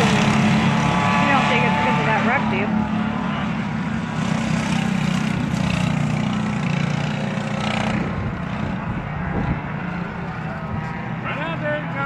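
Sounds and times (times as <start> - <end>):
go-kart engine passing: 0.0 - 12.0.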